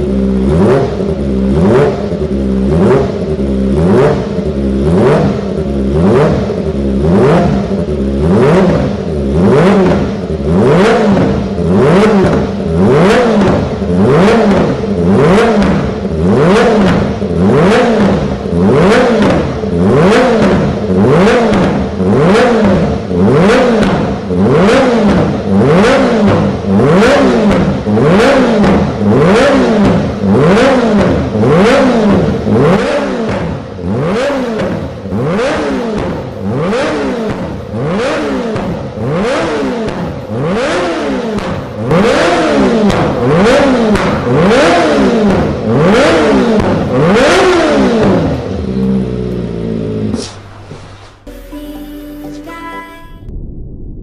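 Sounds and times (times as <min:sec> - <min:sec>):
motorcycle engine revving: 0:00.0 - 0:52.3.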